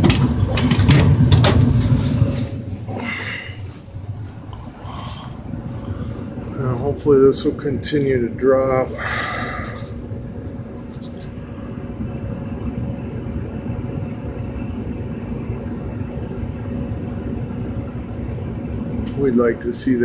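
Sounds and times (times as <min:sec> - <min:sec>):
furnace blower rushing air: 0:00.0 - 0:20.0.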